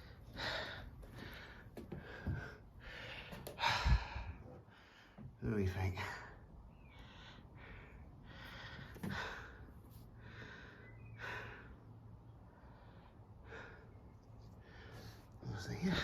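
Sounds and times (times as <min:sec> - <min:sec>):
man breathing noisily: 0:00.0 - 0:05.4, 0:06.8 - 0:16.0.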